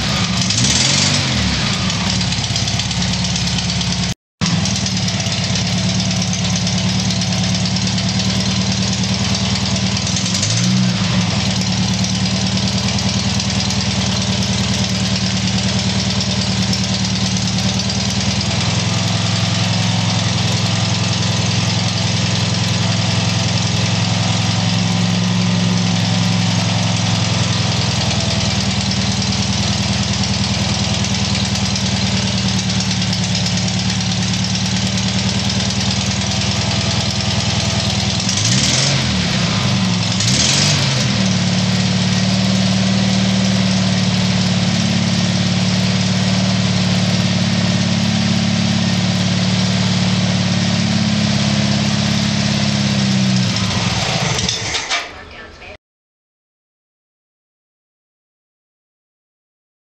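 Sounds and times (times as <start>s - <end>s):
car engine idling and revving: 0.0s - 55.4s.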